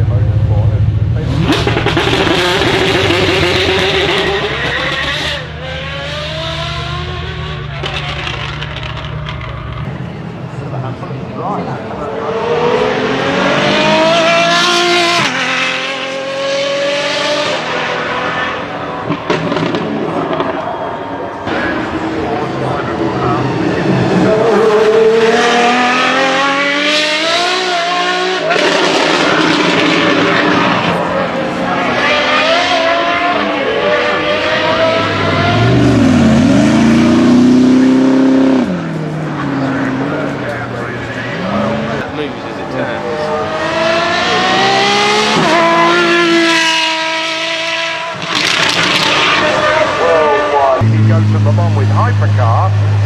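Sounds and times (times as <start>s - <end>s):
sports car engine revving: 0.0s - 20.7s, 21.4s - 53.0s.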